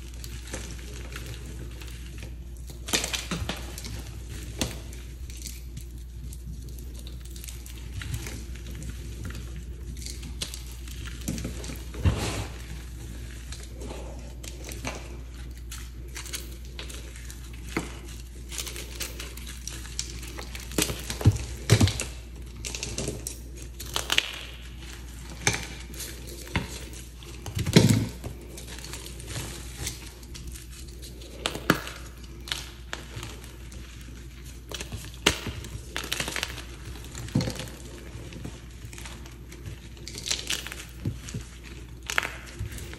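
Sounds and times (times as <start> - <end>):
chalk blocks crunching in hands: 0.0 - 42.9.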